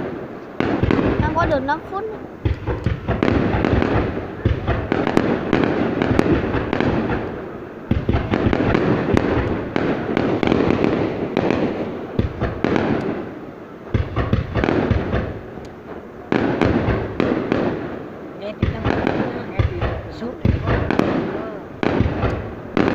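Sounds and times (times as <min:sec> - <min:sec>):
fireworks booming and crackling: 0:00.0 - 0:22.9.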